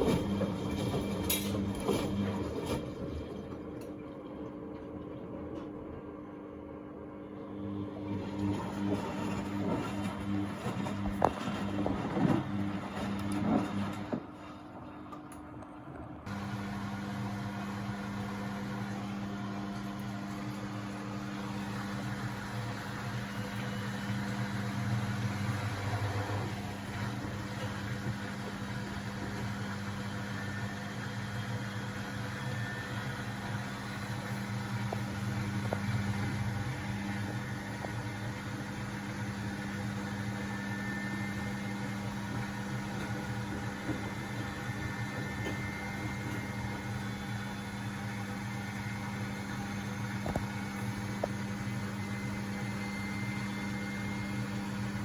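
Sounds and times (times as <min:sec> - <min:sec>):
washing machine spin hum: 0:00.0 - 0:55.0.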